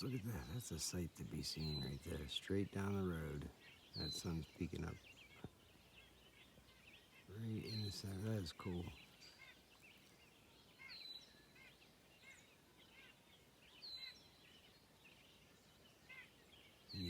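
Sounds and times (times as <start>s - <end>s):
faint bird chirps: 0.0s - 17.0s
outdoor background hiss: 0.0s - 17.0s.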